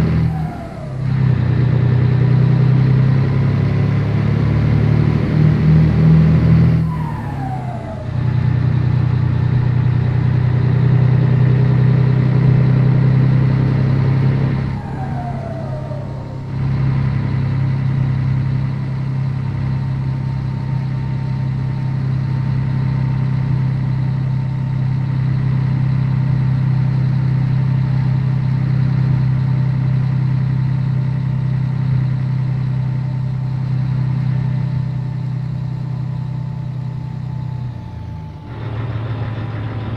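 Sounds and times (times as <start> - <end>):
truck diesel engine under load: 0.0 - 39.9.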